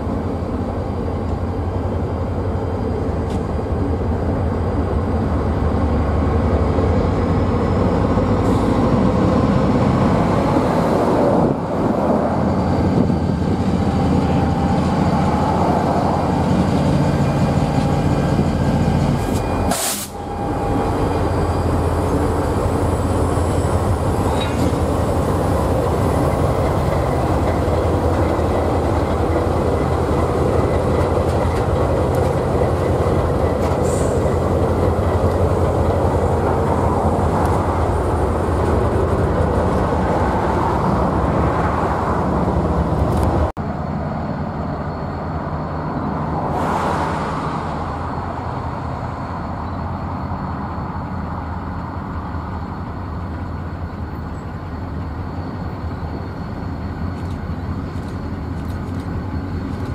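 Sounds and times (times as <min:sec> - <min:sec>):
locomotive engines droning: 0:00.0 - 0:59.9
train wheels rumbling on rails: 0:00.0 - 0:59.9.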